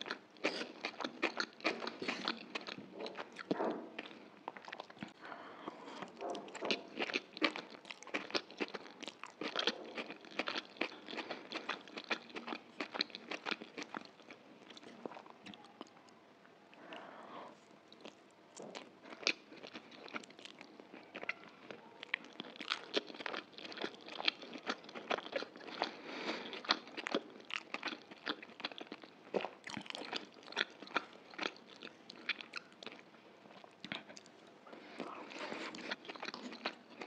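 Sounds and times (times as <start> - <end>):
person chewing noodles: 0.0 - 15.9, 16.8 - 37.0.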